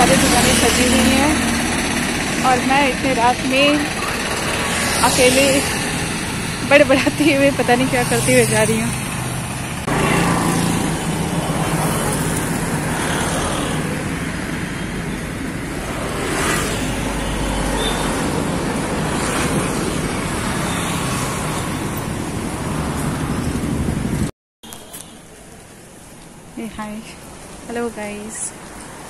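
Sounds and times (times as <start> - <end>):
road traffic noise: 0.0 - 29.0
vehicles passing: 0.0 - 29.0.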